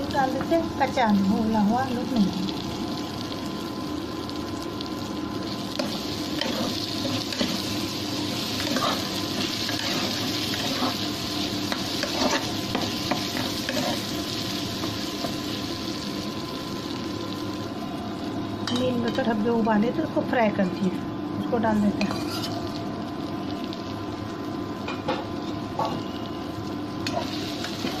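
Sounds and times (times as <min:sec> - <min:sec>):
potato slices sizzling in oil: 0:00.0 - 0:20.8, 0:21.5 - 0:28.0.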